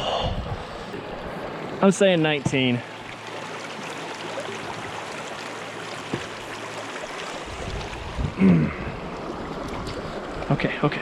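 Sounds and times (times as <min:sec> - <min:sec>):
river water rushing: 0:00.7 - 0:11.0.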